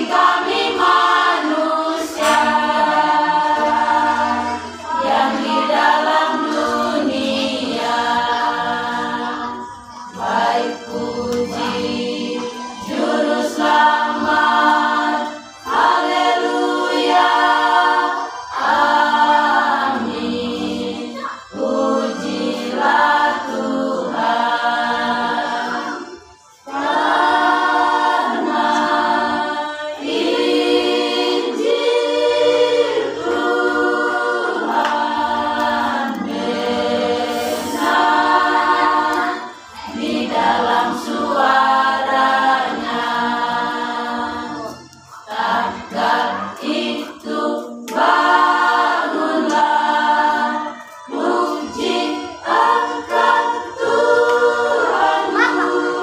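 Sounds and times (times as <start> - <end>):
women's choir singing a cappella: 0.0 - 56.0.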